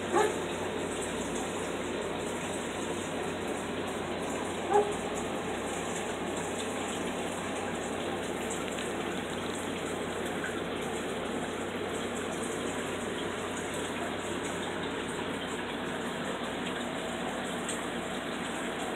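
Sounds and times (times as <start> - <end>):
aquarium water rushing: 0.0 - 18.9.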